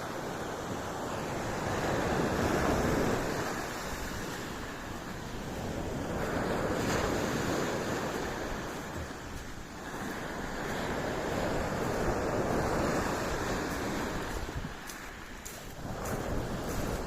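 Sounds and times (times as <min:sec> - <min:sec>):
sea surf washing onto beach: 0:00.0 - 0:17.0.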